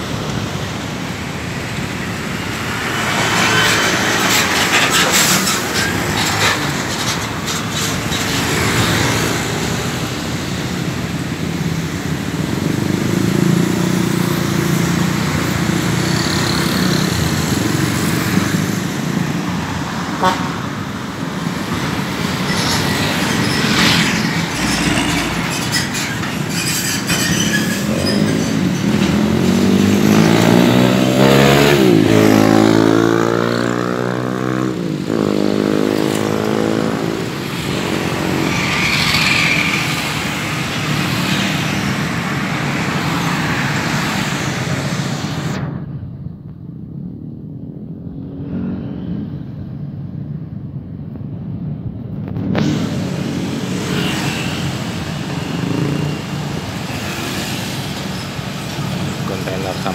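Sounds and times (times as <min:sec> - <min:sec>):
heavy road traffic: 0:00.0 - 0:59.9.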